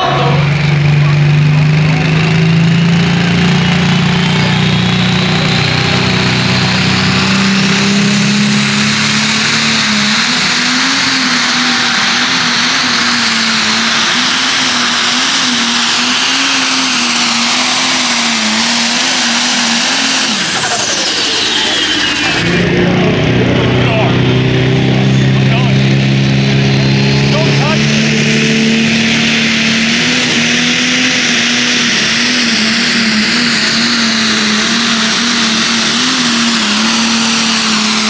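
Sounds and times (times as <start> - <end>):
high engine whine: 0.0 - 38.0
pulling tractor engine at full throttle: 0.0 - 38.0.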